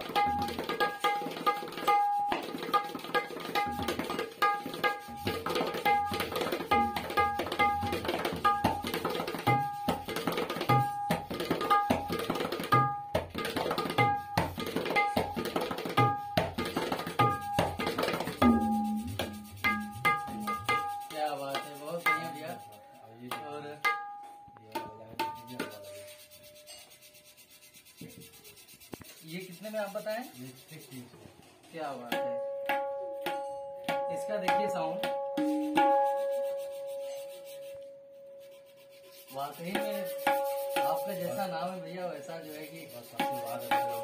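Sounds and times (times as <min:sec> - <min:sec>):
tabla drumming: 0:00.0 - 0:26.7, 0:31.8 - 0:37.7, 0:38.4 - 0:44.0.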